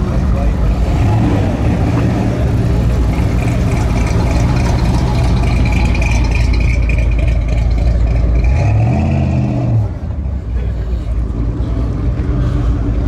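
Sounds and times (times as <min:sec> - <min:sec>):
car engine rumbling past: 0:00.0 - 0:13.0.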